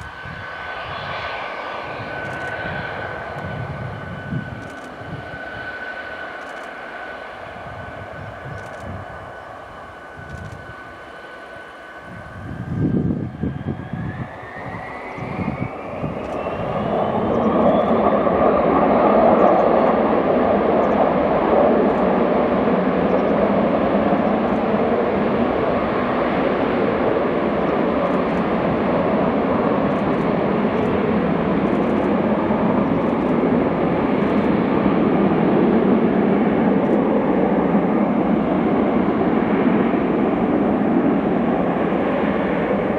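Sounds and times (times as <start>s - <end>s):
jet engines spooling up: 0.0s - 42.9s.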